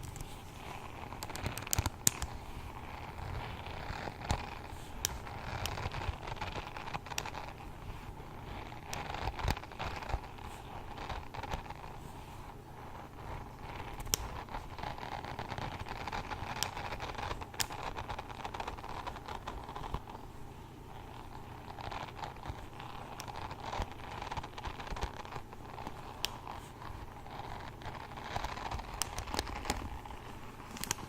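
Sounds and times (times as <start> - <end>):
close rustling and crinkling: 0.0 - 31.0.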